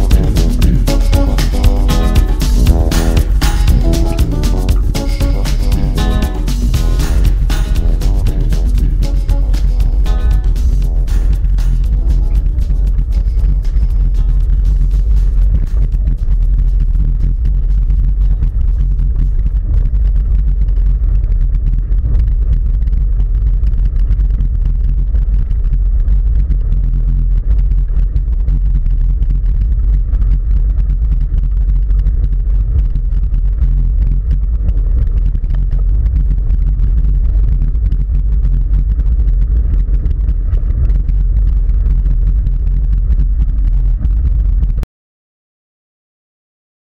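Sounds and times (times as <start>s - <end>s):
wind rumble on microphone: 0.0s - 44.8s.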